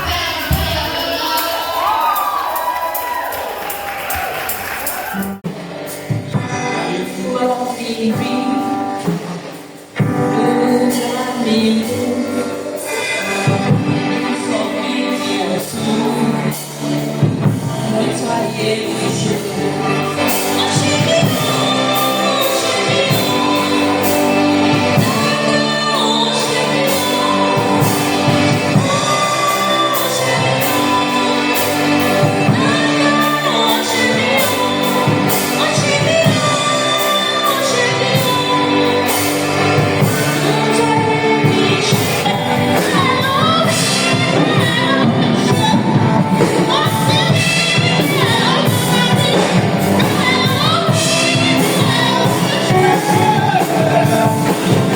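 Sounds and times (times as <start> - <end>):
live band drum beat: 0.0 - 54.9
choir singing gospel: 6.6 - 54.9.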